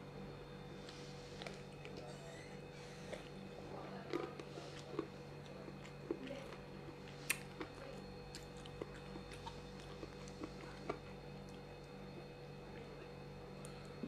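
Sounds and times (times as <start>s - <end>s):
electrical hum: 0.0s - 14.0s
person chewing: 0.8s - 14.0s
small crunches: 0.8s - 14.0s.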